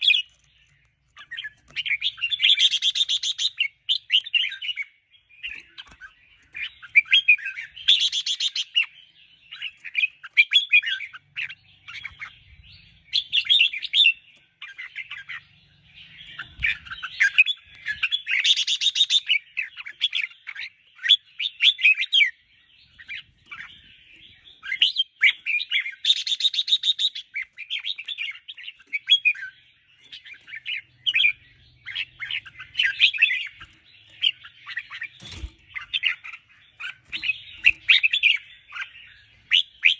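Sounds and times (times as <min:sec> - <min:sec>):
bird chirping and warbling: 0:00.0 - 0:39.9.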